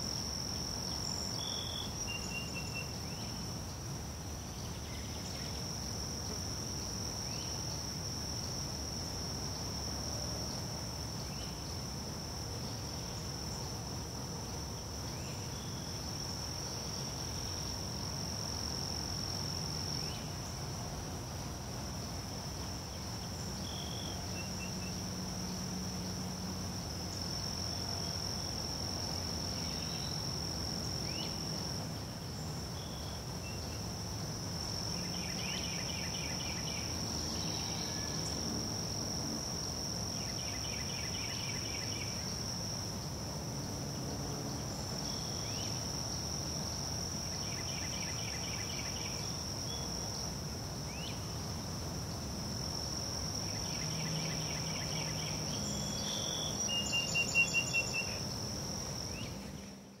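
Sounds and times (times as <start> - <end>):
crickets chirring: 0.0 - 60.0.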